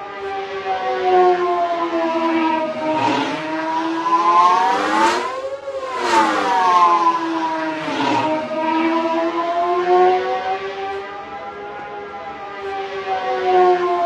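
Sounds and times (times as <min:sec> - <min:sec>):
whining engine drone: 0:00.0 - 0:14.0.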